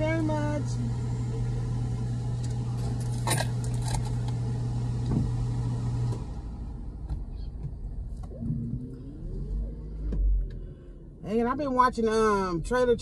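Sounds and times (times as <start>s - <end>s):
low hum inside car: 0.0s - 13.0s.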